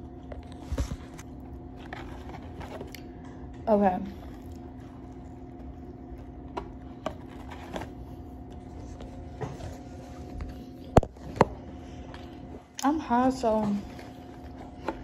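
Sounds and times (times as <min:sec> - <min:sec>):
chewing sandwich: 0:00.0 - 0:12.8
steady low hum: 0:00.0 - 0:15.0.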